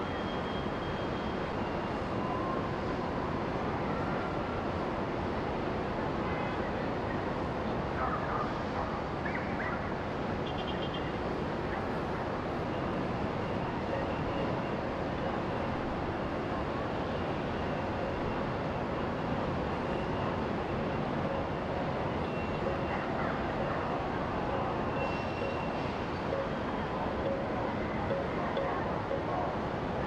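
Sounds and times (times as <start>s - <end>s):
outdoor background roar: 0.0s - 30.0s.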